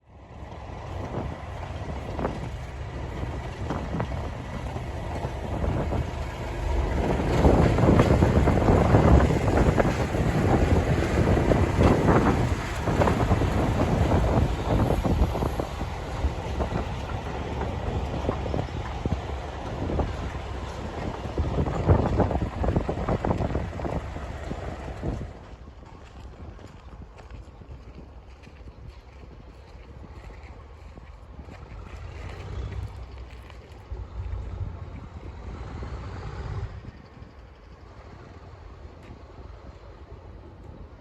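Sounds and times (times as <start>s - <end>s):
diesel locomotives working hard: 0.0s - 26.6s, 29.9s - 41.0s.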